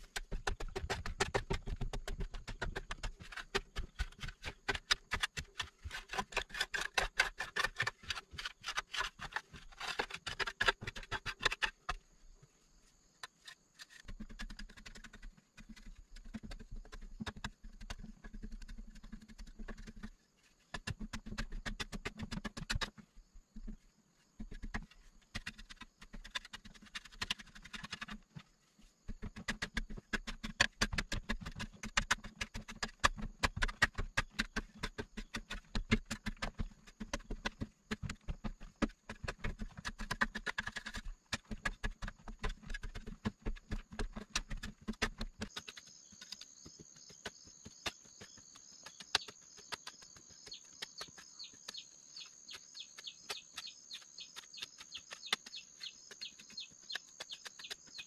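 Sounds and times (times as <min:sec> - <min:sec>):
loose soil pattering down: 0:00.0 - 0:58.0.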